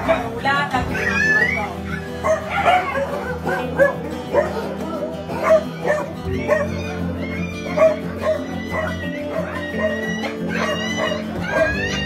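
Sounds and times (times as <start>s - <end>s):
background music: 0.0s - 12.0s
dog yelping and barking: 0.0s - 12.0s.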